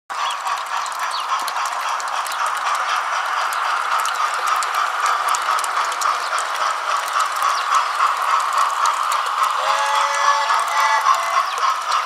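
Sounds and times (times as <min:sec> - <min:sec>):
wheels clicking on rails: 0:00.1 - 0:12.0
model train whine: 0:00.2 - 0:12.0.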